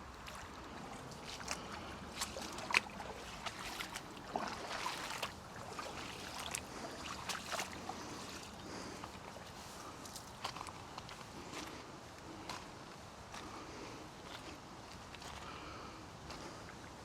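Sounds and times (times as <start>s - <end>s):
footsteps sloshing through water: 0.0s - 17.0s
moving water: 0.0s - 17.0s.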